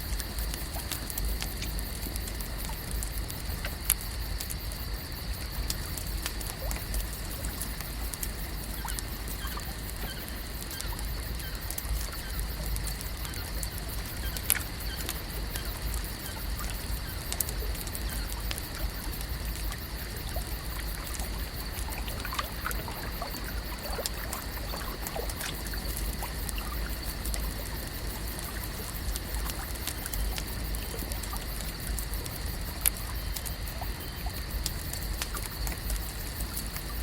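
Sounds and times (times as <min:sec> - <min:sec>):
small clicks and ticks: 0:00.0 - 0:37.0.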